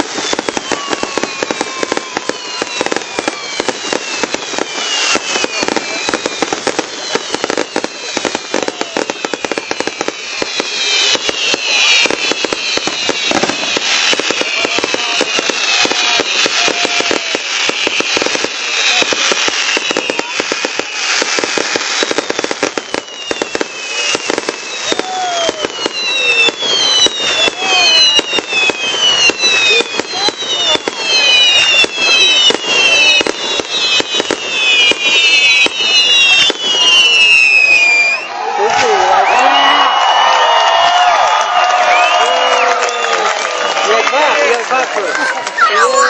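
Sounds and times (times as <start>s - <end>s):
fireworks cracks and bangs: 0.0s - 46.0s
whistling firework shells: 0.0s - 46.0s.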